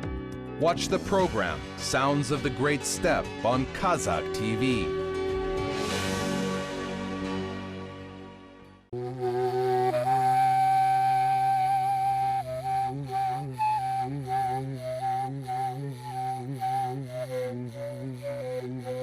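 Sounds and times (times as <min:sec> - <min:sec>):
flute melody: 0:00.6 - 0:06.9, 0:08.9 - 0:19.0.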